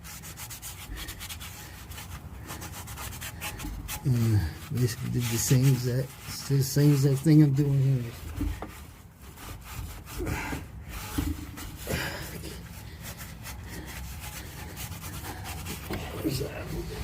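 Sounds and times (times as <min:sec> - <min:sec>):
abrasive rubbing rusty metal: 0:00.0 - 0:17.0.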